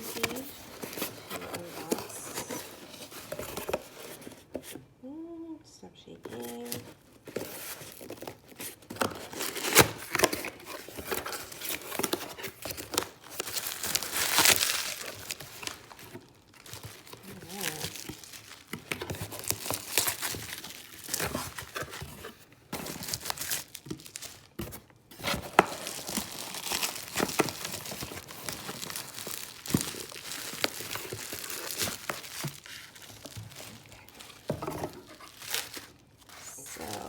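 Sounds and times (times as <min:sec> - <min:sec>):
packaging crinkling and tearing: 0:00.0 - 0:04.8, 0:06.4 - 0:37.0.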